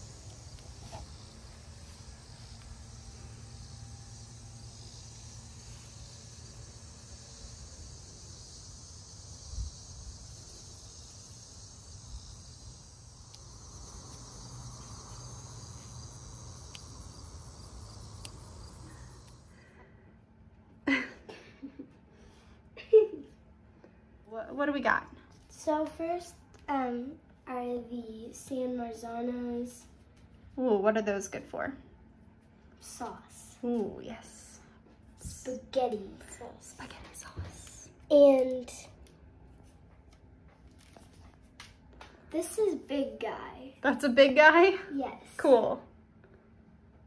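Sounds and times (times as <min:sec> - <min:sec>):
crickets and insects chirping: 0:00.0 - 0:30.2, 0:31.2 - 0:45.9.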